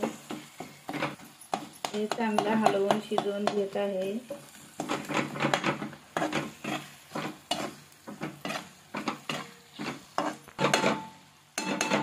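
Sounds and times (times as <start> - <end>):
metal spoon scraping a pan: 0.0 - 12.0
oil sizzling: 0.0 - 12.0.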